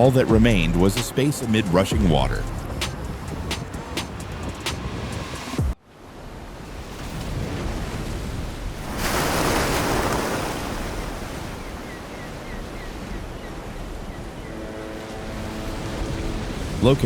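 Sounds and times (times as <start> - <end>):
rushing water: 0.0 - 5.4, 6.2 - 17.0.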